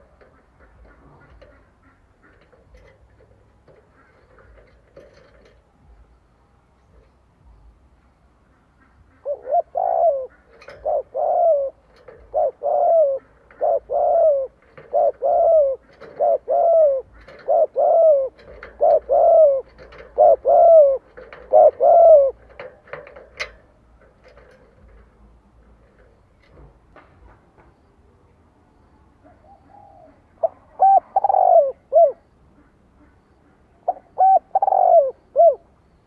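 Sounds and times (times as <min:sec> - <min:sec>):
dove cooing: 0:00.0 - 0:06.0, 0:08.6 - 0:25.2, 0:29.2 - 0:36.0.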